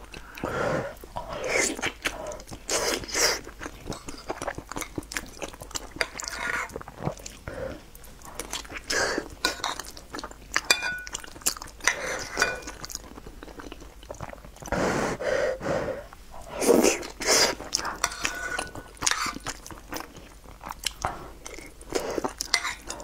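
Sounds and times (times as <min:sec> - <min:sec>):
wet chewing and mouth sounds: 0:00.0 - 0:14.8, 0:16.4 - 0:23.0.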